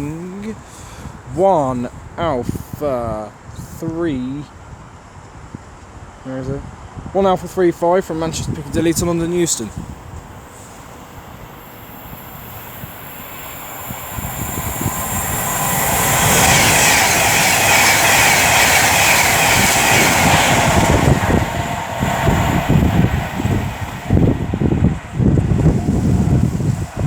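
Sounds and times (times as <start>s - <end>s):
electric train passing: 0.0s - 2.7s, 7.4s - 27.0s
wind gusts buffeting microphone: 0.0s - 27.0s.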